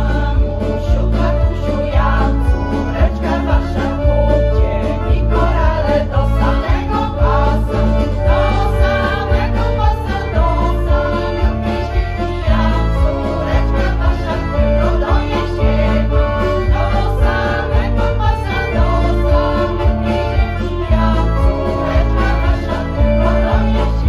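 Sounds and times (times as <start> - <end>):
piano accordion: 0.0 - 24.0
women's choir singing folk song: 0.0 - 24.0.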